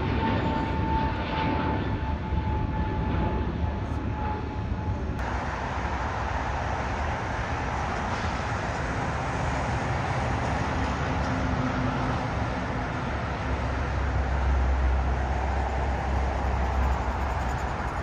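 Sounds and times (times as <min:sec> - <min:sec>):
jet engines rumbling: 0:00.0 - 0:18.0
jet engines whining: 0:00.0 - 0:18.0.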